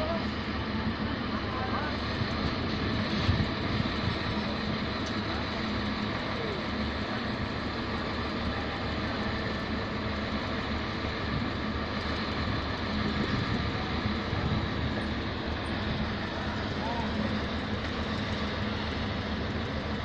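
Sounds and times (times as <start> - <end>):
pile-driving rig engine drone: 0.0 - 20.0.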